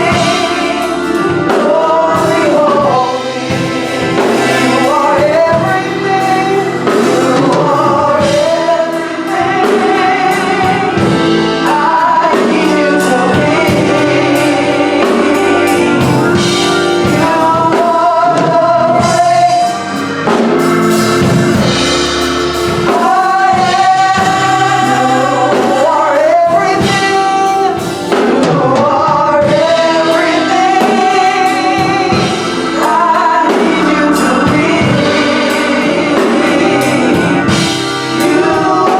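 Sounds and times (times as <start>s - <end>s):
gospel choir singing: 0.0s - 38.9s
instrumental backing with drums: 0.0s - 38.9s.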